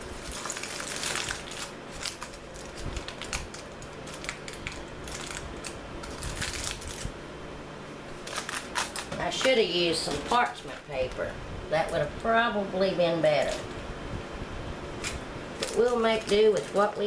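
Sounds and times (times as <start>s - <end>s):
aluminium foil crinkling: 0.0s - 7.2s, 8.2s - 12.4s, 13.3s - 13.7s, 15.0s - 17.0s.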